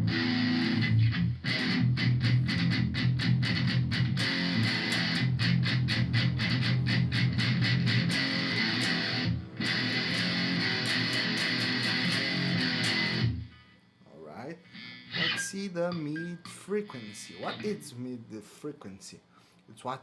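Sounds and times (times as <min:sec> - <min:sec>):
distorted electric guitar riff: 0:00.0 - 0:13.8, 0:14.6 - 0:18.0.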